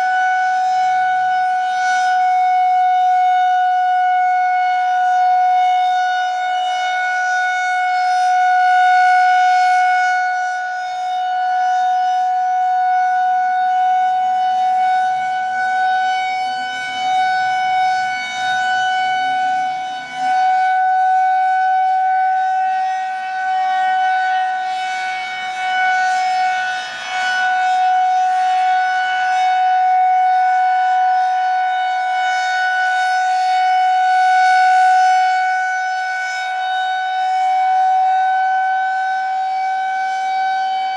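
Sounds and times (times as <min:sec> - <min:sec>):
rotating warning siren: 0:00.0 - 0:40.9.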